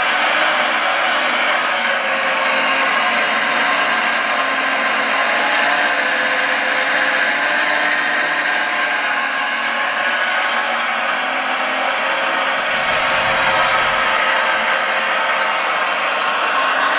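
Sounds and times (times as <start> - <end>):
toy excavator mechanical whir: 0.0 - 16.9.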